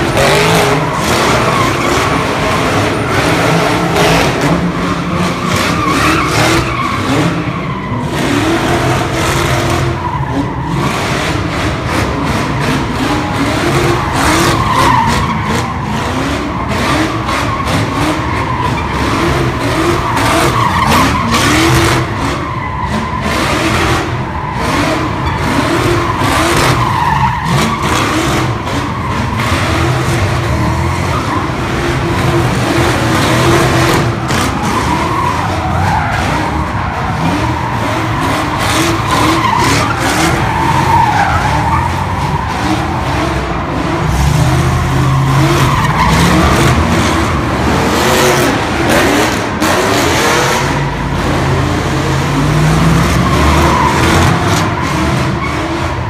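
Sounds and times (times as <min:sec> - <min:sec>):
car engines revving: 0:00.0 - 0:56.0
tyres squealing and skidding: 0:00.0 - 0:56.0.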